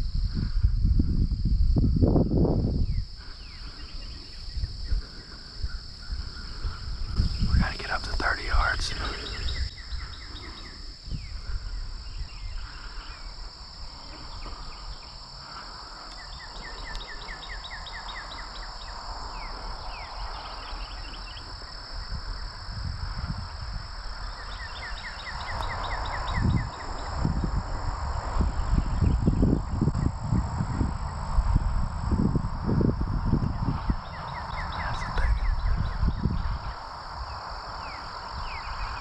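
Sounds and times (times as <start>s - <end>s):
low rumbling on microphone: 0.0s - 17.3s, 18.8s - 39.0s
high insect drone: 0.0s - 39.0s
rapid insect trilling: 0.0s - 39.0s.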